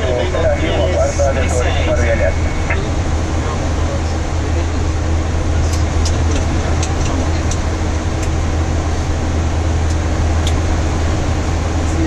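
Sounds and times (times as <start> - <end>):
cockpit low hum and air rush: 0.0 - 12.0.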